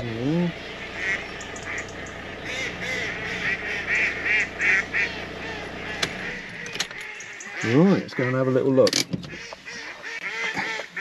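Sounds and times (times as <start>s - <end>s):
car engine idling: 0.0s - 10.3s
ducks quacking: 0.0s - 11.0s.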